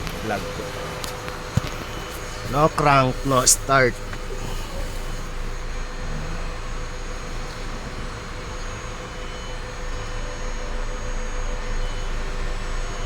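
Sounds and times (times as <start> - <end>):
faint constant hum: 0.0 - 13.0
whooshing machine noise: 0.0 - 13.0.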